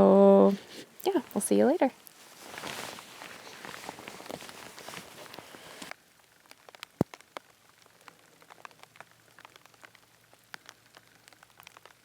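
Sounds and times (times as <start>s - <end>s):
raindrops dripping and ticking: 0.9s - 12.0s.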